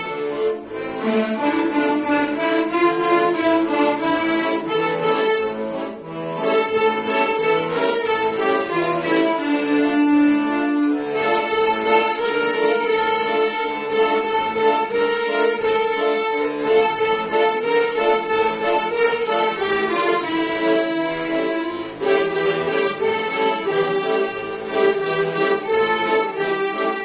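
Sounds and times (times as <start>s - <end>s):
accordions playing hymn tune: 0.0s - 27.0s
violin playing: 0.0s - 27.0s.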